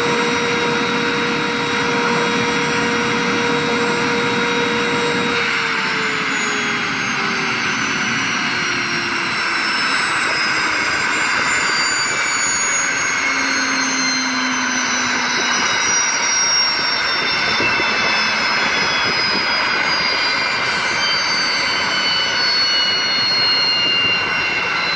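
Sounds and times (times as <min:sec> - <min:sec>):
turbine whine falling in pitch: 0:00.0 - 0:24.9.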